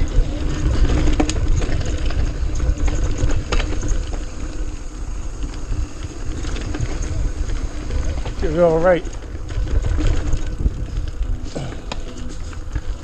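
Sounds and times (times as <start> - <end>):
bike knocking and rattling: 0.0 - 13.0
bike tyre and chain noise: 0.0 - 13.0
wind rumble on microphone: 0.0 - 13.0.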